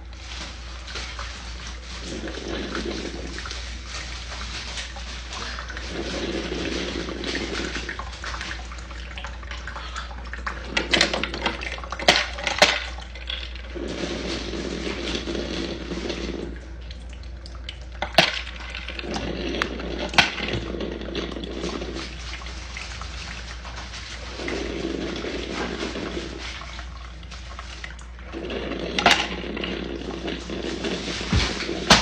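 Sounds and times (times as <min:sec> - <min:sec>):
coffee trickling into cup of ice: 0:00.0 - 0:17.0, 0:17.8 - 0:32.0.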